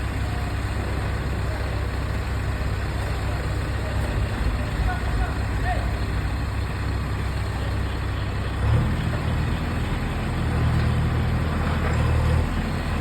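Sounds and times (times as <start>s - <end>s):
heavy vehicle engine humming: 0.0s - 13.0s.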